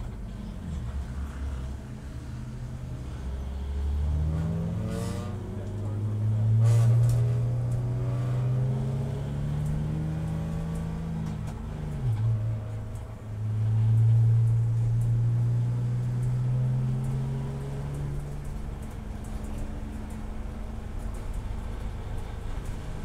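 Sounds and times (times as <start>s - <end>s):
race car engine accelerating: 3.3s - 23.0s.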